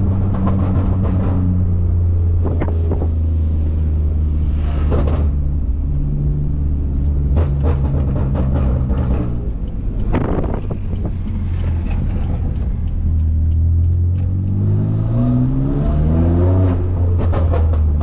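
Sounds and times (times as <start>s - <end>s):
car exhaust crackling: 0.0s - 14.6s.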